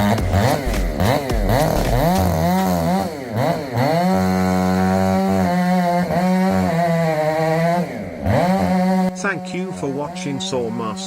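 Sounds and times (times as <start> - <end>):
chainsaw engine revving: 0.0 - 11.0.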